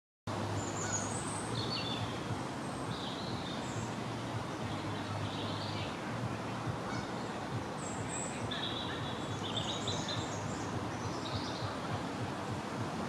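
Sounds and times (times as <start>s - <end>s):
birds chirping: 0.5s - 12.8s.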